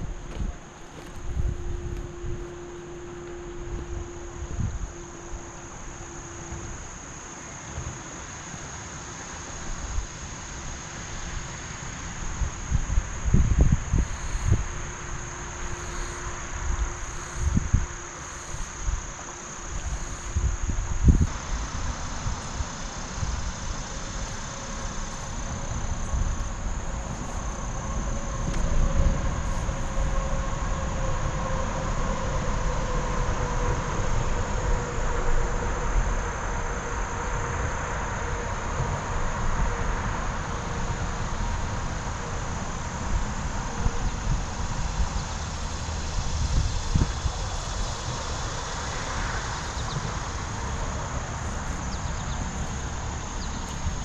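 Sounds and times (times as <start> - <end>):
wind on microphone: 0.0 - 5.8, 12.2 - 54.0
heavy vehicle drone: 0.0 - 54.0
insects buzzing: 0.0 - 54.0.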